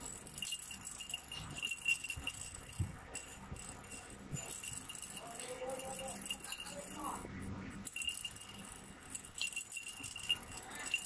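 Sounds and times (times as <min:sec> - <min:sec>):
rattle toy jingling: 0:00.0 - 0:11.0.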